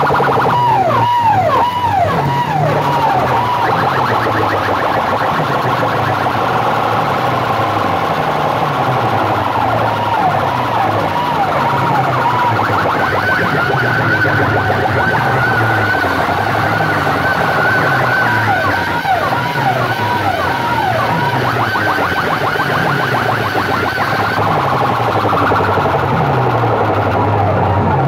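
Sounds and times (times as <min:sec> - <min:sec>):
pulsing bass beat: 0:00.0 - 0:28.0
siren-like wail: 0:00.0 - 0:28.0.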